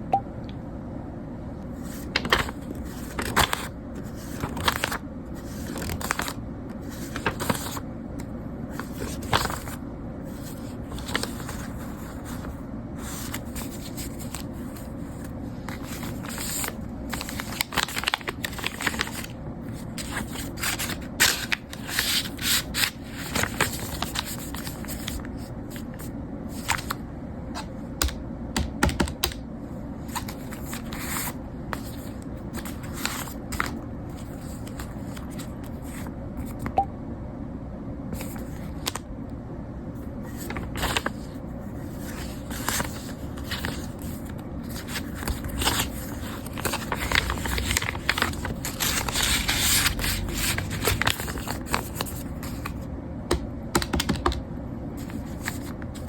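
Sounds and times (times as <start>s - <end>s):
hands handling objects and paper: 1.8s - 27.0s, 30.0s - 36.7s, 40.2s - 54.4s, 55.0s - 56.0s.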